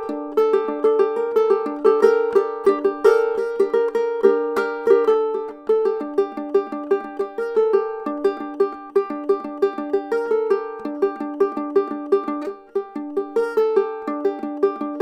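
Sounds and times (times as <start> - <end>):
ukulele fingerpicked: 0.0 - 15.0.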